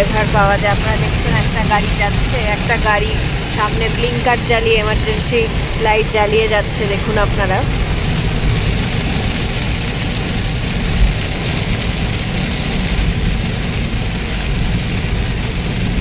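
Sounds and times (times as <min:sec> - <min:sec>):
car engine and road rumble: 0:00.0 - 0:16.0
rain hissing on car: 0:00.0 - 0:16.0.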